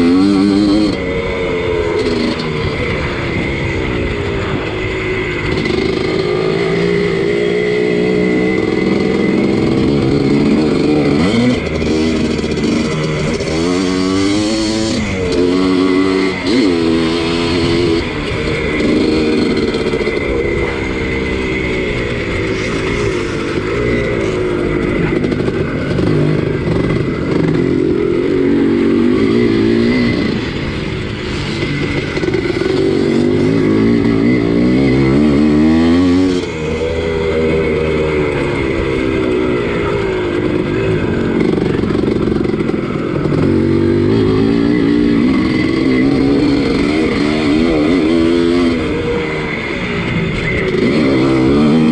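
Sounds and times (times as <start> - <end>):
two-stroke motocross bike revving: 0.0 - 51.9.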